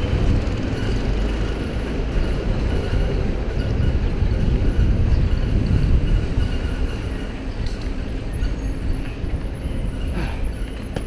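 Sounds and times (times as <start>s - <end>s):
road rumble: 0.0s - 11.0s
wind buffeting microphone: 0.0s - 11.0s.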